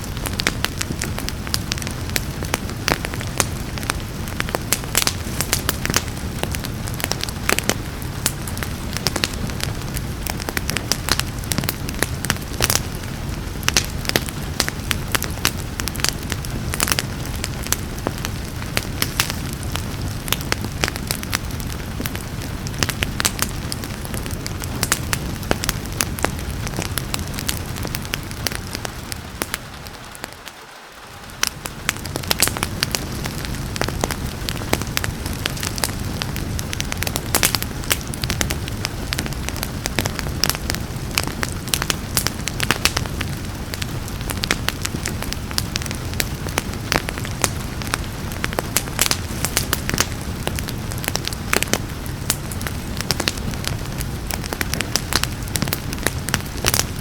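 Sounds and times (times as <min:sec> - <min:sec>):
rain hissing: 0:00.0 - 0:57.0
wood fire crackling and popping: 0:00.0 - 0:57.0.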